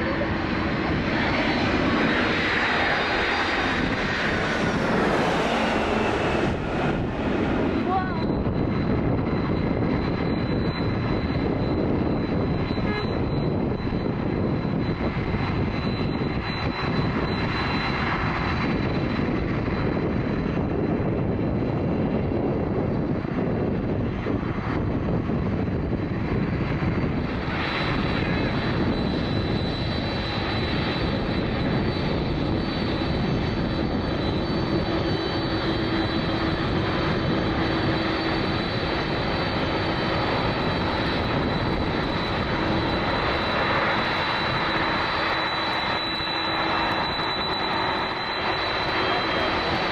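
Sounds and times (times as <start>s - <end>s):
jet engines rumbling with whine: 0.0s - 49.9s.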